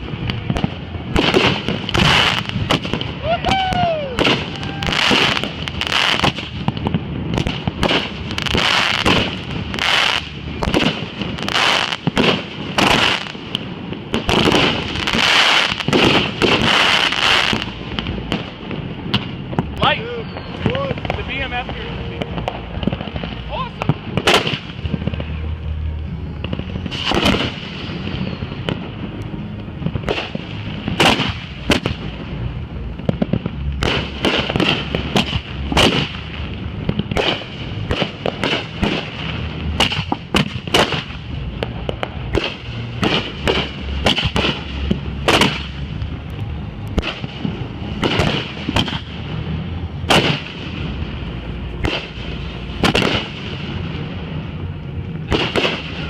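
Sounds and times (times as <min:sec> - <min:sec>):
fireworks bangs: 0:00.0 - 0:56.0
low rumble: 0:00.0 - 0:56.0.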